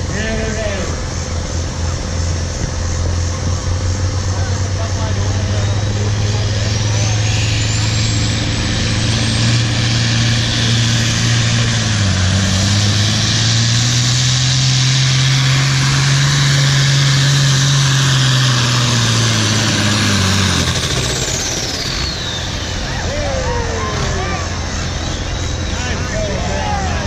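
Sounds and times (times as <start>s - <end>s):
high whine: 0.0s - 27.0s
tractor engine under load: 0.0s - 27.0s.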